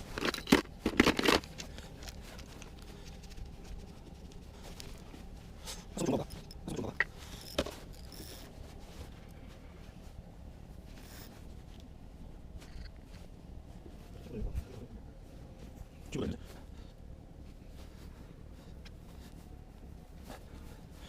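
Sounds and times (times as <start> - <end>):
gear scraping and rustling: 0.0 - 21.0.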